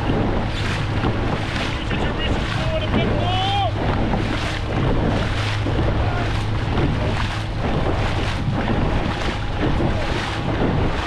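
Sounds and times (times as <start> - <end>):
paddles splashing in water: 0.0 - 11.0
wind buffeting microphone: 0.0 - 11.0.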